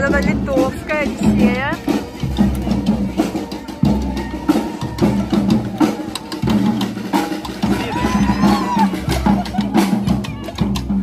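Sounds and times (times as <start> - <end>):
bass drum: 0.0 - 11.0
snare drums: 0.0 - 11.0.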